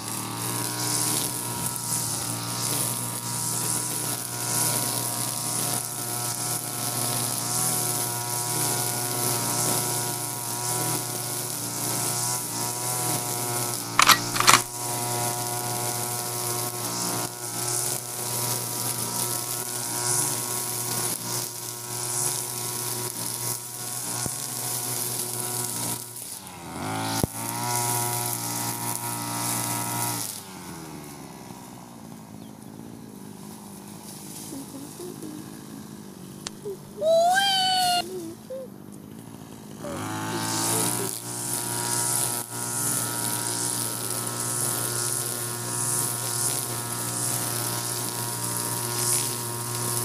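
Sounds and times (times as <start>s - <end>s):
brush cutter cutting grass: 0.0s - 50.0s.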